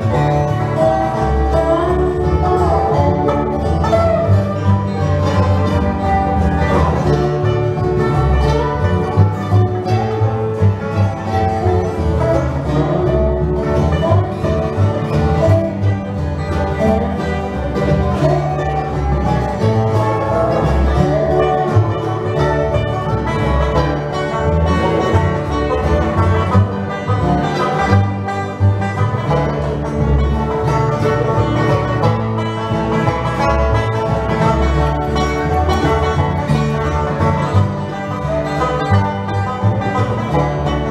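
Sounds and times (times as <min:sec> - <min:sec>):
acoustic guitar: 0:00.0 - 0:40.9
banjo: 0:00.0 - 0:40.9
mandolin: 0:00.0 - 0:40.9
upright bass: 0:00.0 - 0:40.9.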